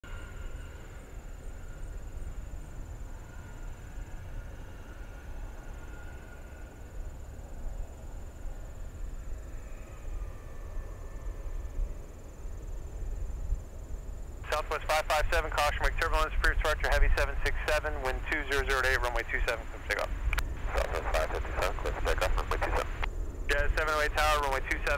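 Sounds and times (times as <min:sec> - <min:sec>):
distant jet engines idling: 0:00.0 - 0:24.9
high insect trill: 0:00.1 - 0:24.9.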